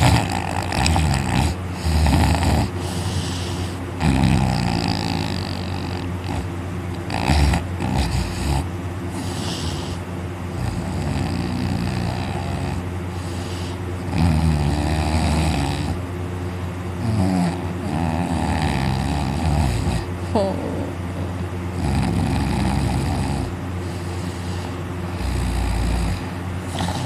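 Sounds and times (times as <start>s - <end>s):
man snoring loudly: 0.0s - 10.0s, 10.6s - 16.0s, 17.0s - 27.0s.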